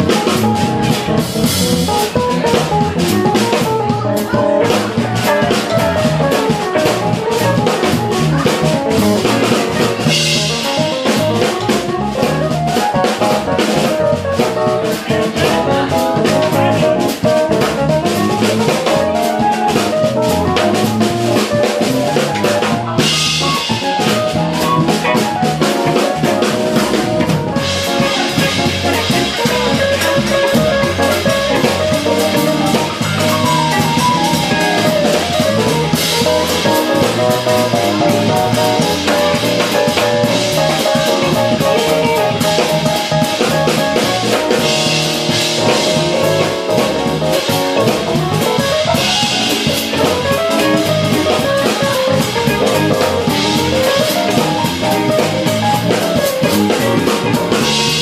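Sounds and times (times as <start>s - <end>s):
drum kit: 0.0s - 58.0s
electric bass: 0.0s - 58.0s
electric guitar melody: 0.0s - 58.0s.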